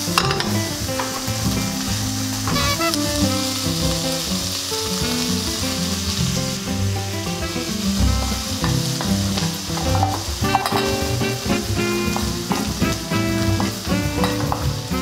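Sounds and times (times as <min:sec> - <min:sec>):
background music: 0:00.0 - 0:15.0
vegetables sizzling in frying pan: 0:00.0 - 0:15.0.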